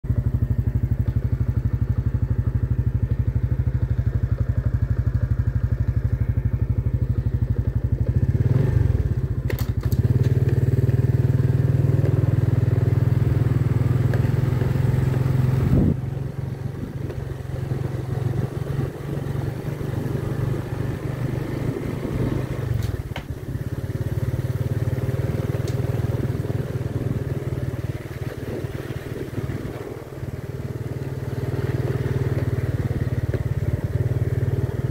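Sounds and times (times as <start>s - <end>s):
small vehicle engine humming: 0.0s - 34.9s.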